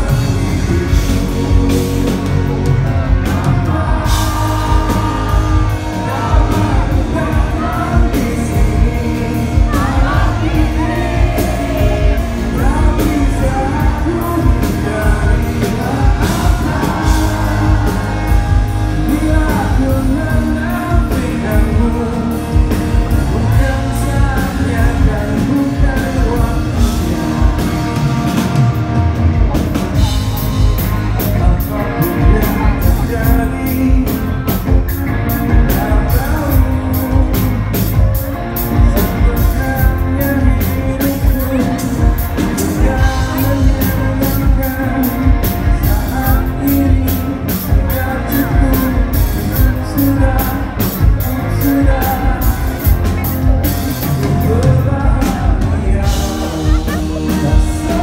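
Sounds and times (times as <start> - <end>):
drums with cymbal beat: 0.0 - 58.0
live rock band: 0.0 - 58.0
man singing lead: 0.0 - 58.0.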